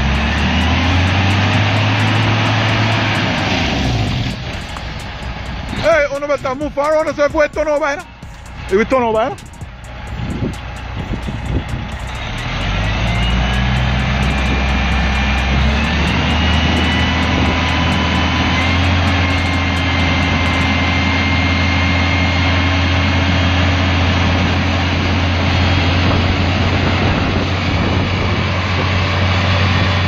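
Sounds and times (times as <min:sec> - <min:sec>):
diesel truck engine revving: 0:00.0 - 0:30.0
high engine whine: 0:00.0 - 0:30.0.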